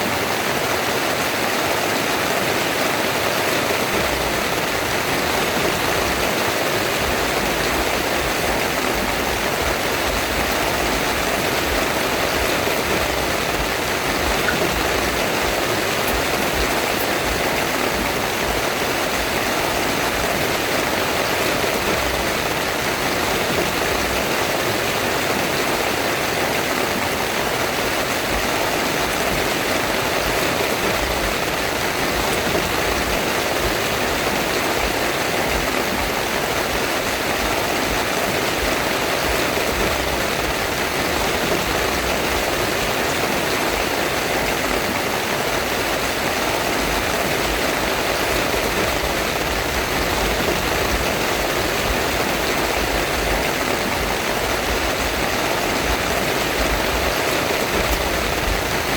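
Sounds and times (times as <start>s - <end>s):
heavy rain on a tent: 0.0s - 58.9s.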